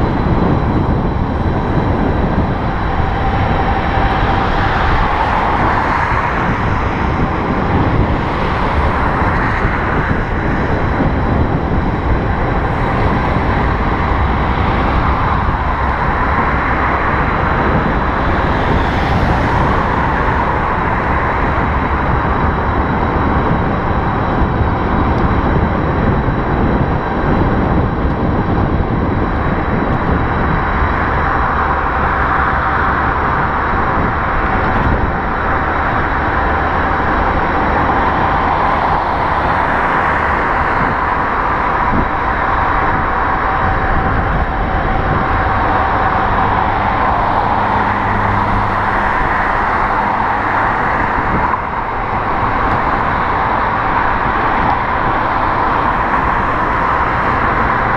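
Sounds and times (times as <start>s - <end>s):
electric bicycle riding on road: 0.0s - 57.9s.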